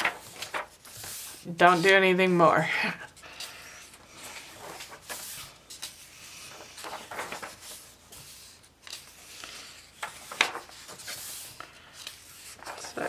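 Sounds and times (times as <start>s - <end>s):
sharp paper crackle: 0.0s - 2.1s, 4.4s - 13.0s
paper pages rustling: 0.0s - 2.4s, 3.1s - 13.0s.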